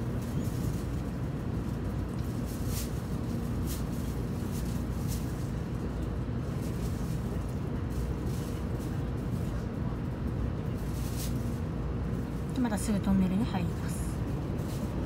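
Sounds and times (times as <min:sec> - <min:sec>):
train running gear rumbling: 0:00.0 - 0:15.0.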